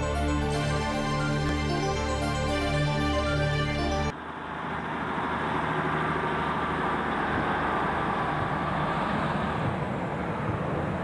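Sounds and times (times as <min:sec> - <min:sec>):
diesel train engine hum: 0:00.0 - 0:11.0.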